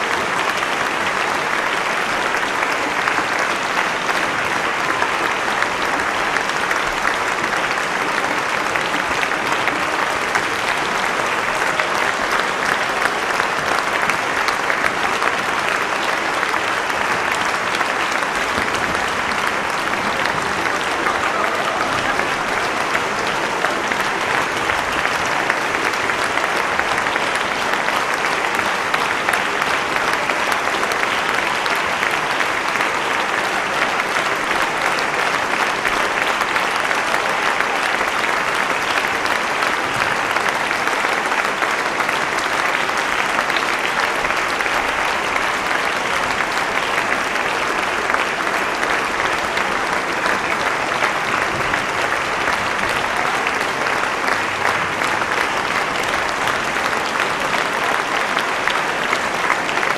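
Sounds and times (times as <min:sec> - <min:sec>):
large audience applauding: 0:00.0 - 0:59.9.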